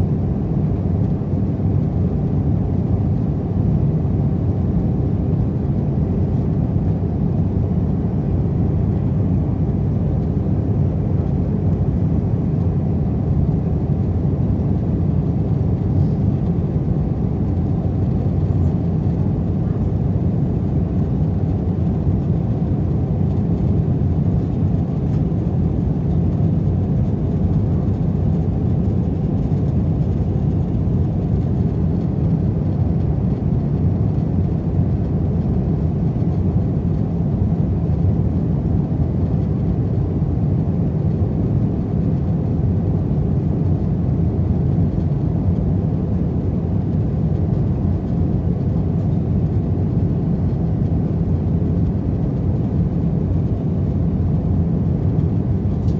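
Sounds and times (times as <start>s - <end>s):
airplane cabin roar: 0.0s - 55.9s.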